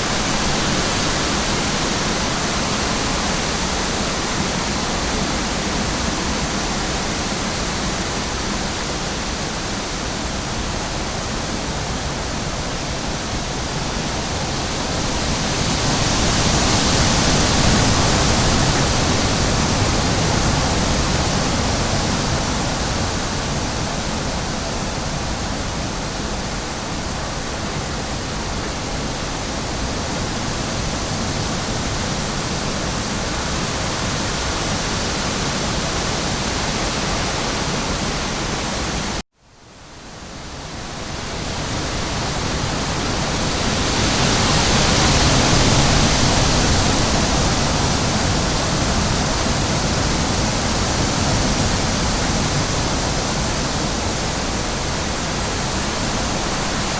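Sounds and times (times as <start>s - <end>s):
steady rushing water noise: 0.0s - 56.9s.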